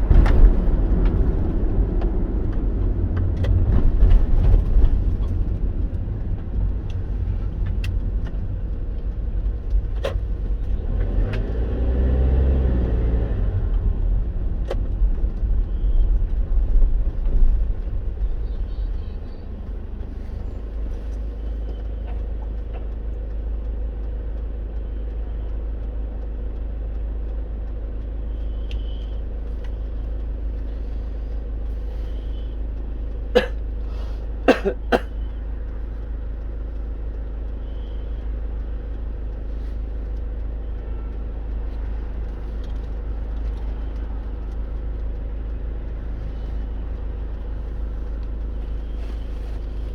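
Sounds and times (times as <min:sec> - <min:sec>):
car road and engine rumble: 0:00.0 - 0:49.9.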